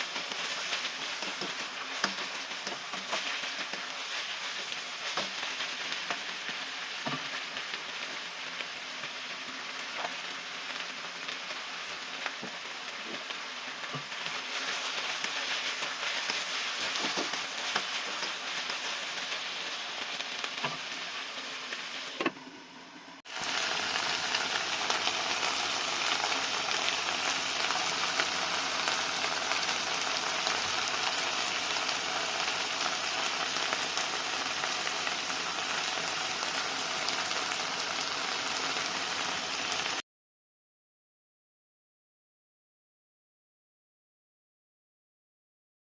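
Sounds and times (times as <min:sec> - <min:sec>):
meat sizzling in a frying pan: 0:00.0 - 0:22.2, 0:23.2 - 0:40.0.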